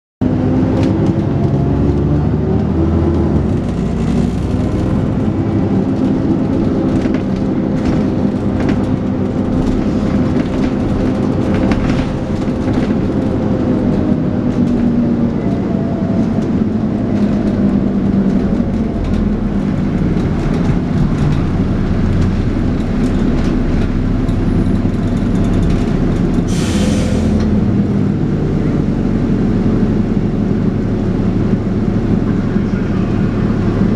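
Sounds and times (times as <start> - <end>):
bus engine whining under load: 0.2 - 33.9.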